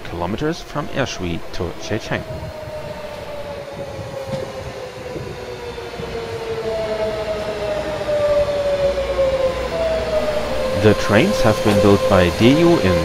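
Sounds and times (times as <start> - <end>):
diesel train running: 0.0 - 13.0.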